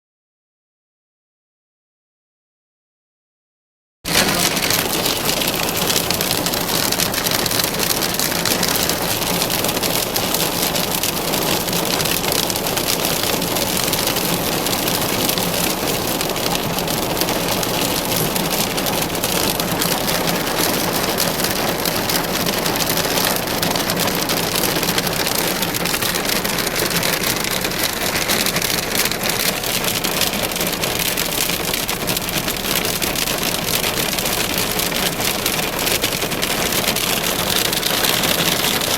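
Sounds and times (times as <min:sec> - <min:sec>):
hailstones pelting down: 0:04.1 - 0:38.9
heavy rain: 0:04.1 - 0:38.9.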